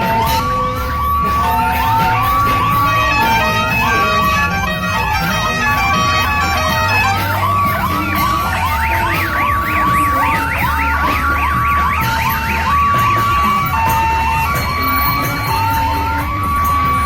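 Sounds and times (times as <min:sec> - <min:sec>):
rising siren whoops: 0:00.0 - 0:17.0
two-pitch horn notes: 0:00.0 - 0:17.0.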